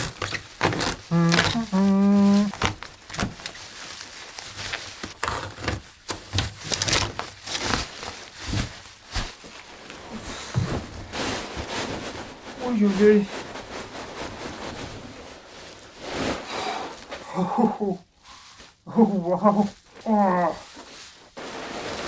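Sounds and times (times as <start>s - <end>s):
packaging scraping and rustling: 0.0s - 17.3s, 19.5s - 22.0s.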